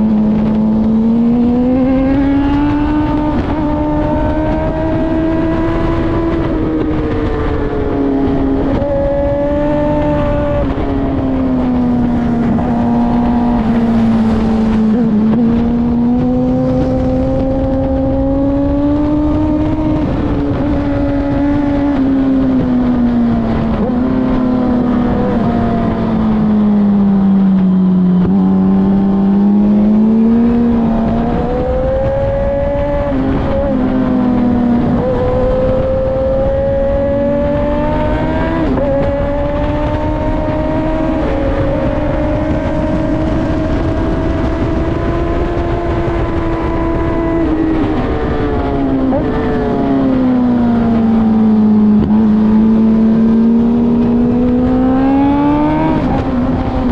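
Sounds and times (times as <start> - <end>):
racing motorcycle engine: 0.0 - 56.9.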